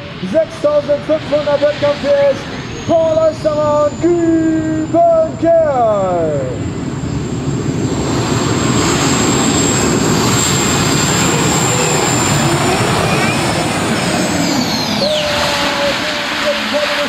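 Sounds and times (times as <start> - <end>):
tractor engines at full power: 0.0 - 17.0.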